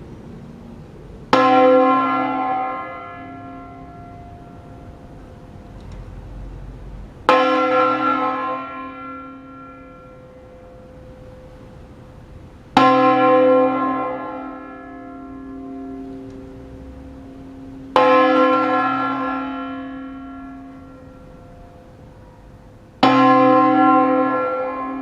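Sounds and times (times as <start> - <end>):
church bell tolling: 1.3 - 5.6, 7.2 - 25.0.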